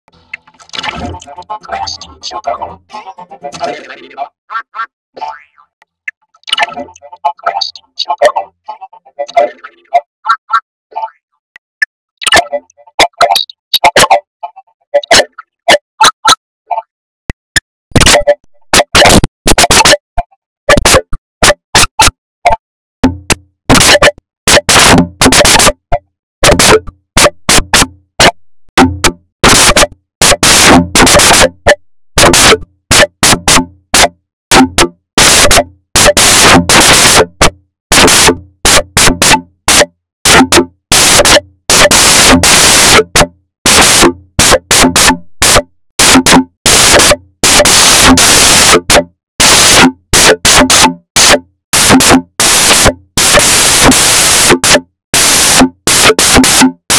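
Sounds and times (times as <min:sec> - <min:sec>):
distorted stuttering electronic noise: 0:00.1 - 0:04.4, 0:06.5 - 0:10.4, 0:12.2 - 0:14.3, 0:18.0 - 0:20.0, 0:20.7 - 0:22.1, 0:23.7 - 0:56.9.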